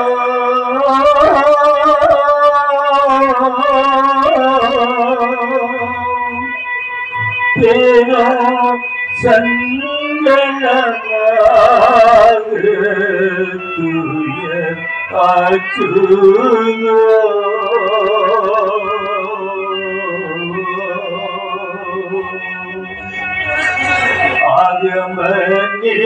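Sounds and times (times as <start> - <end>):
instrumental accompaniment: 0.0 - 26.0
man singing: 0.0 - 26.0.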